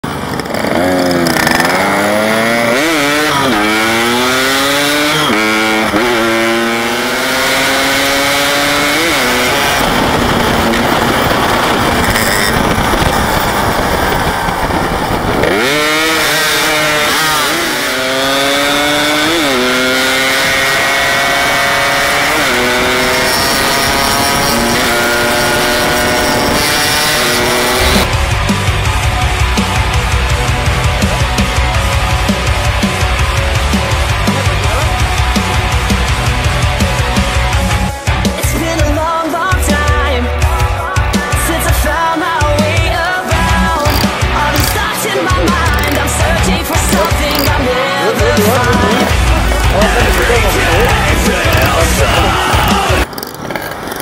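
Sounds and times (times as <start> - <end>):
steady rushing noise: 0.0 - 38.2, 43.2 - 54.0
motorcycle engine accelerating: 0.0 - 38.8, 41.4 - 54.0.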